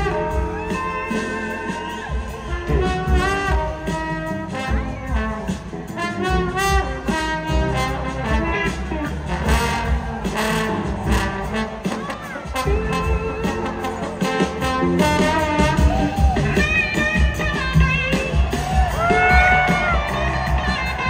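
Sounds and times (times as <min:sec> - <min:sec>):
trombone solo: 0:00.0 - 0:18.2
rock band drums and keyboards: 0:00.0 - 0:21.0.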